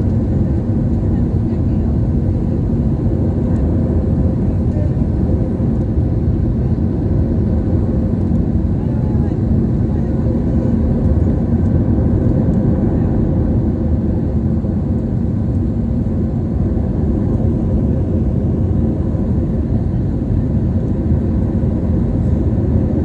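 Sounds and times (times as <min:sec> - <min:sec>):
airliner cabin engine drone: 0:00.0 - 0:23.0.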